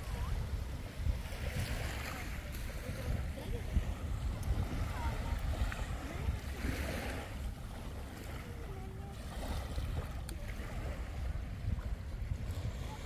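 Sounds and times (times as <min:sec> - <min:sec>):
sea water washing: 0:00.0 - 0:13.0
wind buffeting microphone: 0:00.0 - 0:13.0.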